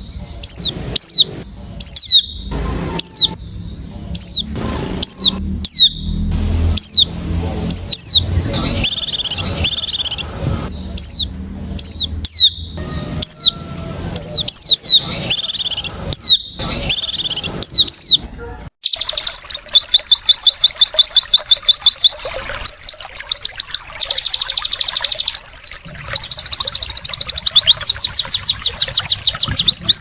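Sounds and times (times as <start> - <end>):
bird chirping and trilling: 0.0 - 30.0.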